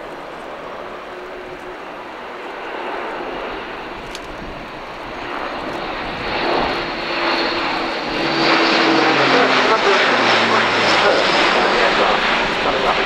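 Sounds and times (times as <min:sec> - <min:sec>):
turboprop aircraft flying past: 0:00.0 - 0:13.0.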